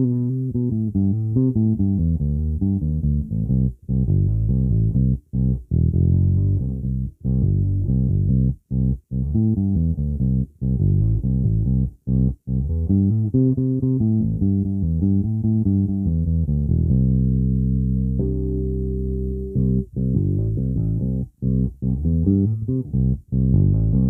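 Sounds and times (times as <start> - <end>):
bass guitar riff: 0.0 - 24.0.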